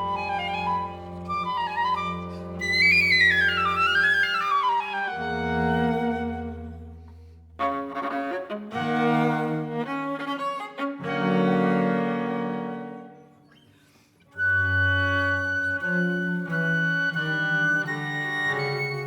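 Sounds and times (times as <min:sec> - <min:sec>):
viola: 0:00.0 - 0:19.0.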